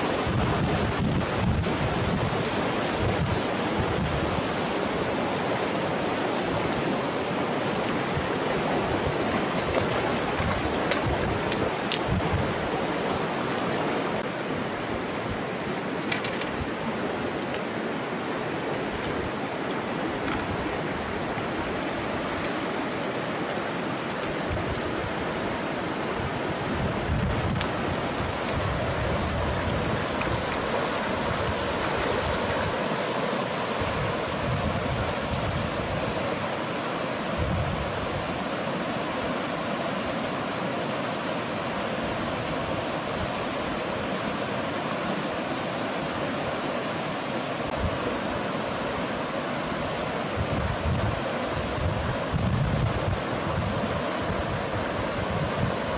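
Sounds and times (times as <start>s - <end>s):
river rushing over rocks: 0.0s - 55.9s.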